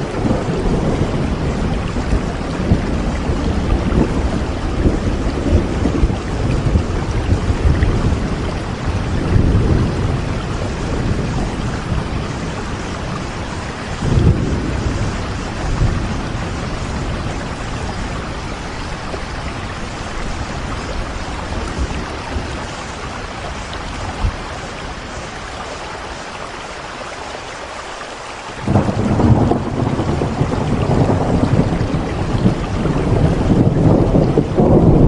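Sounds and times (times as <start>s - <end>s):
low thunder rumble: 0.0s - 25.8s, 28.6s - 35.0s
steady rain: 0.0s - 35.0s.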